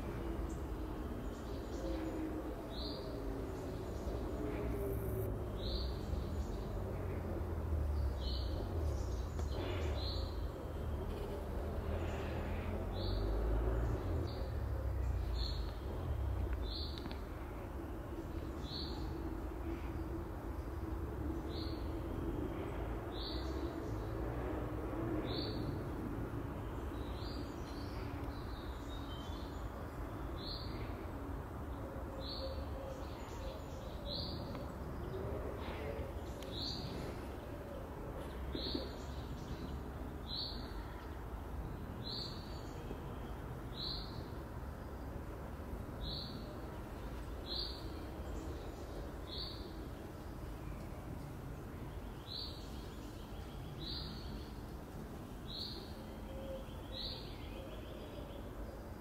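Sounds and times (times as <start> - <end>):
low outdoor background noise: 0.0 - 59.0.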